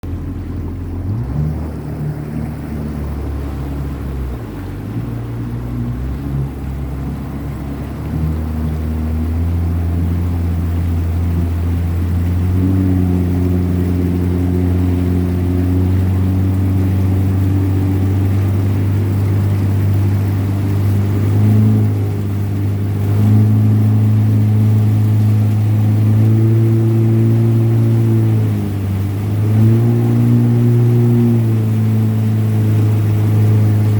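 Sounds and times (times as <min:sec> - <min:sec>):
jet ski engine running: 0:00.0 - 0:33.9.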